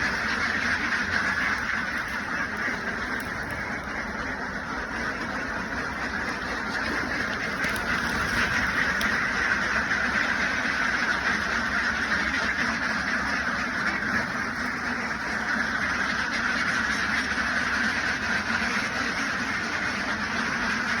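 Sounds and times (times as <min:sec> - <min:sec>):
flock of ducks quacking: 0:00.0 - 0:21.0.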